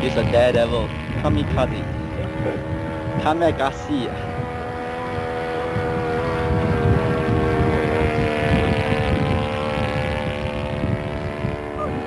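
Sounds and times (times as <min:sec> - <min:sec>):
model airplane engine drone: 0:00.0 - 0:12.0
wind buffeting microphone: 0:00.0 - 0:12.0.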